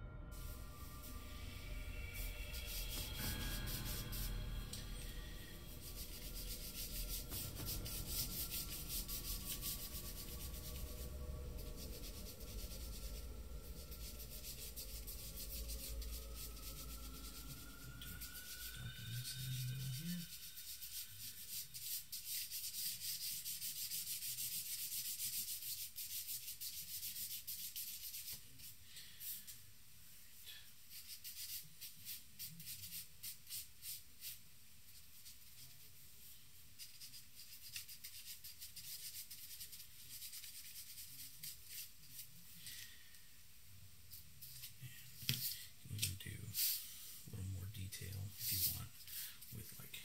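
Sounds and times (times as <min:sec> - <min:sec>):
charcoal rubbing on paper: 0:00.7 - 0:29.6, 0:30.9 - 0:42.9.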